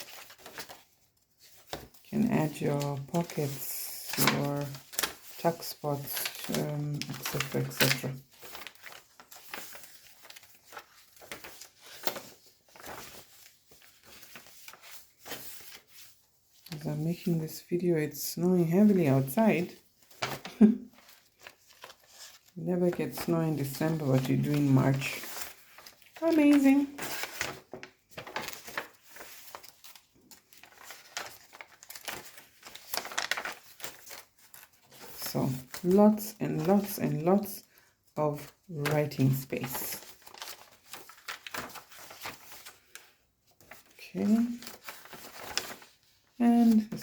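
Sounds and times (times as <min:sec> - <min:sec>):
paper pages rustling: 0:00.0 - 0:47.0.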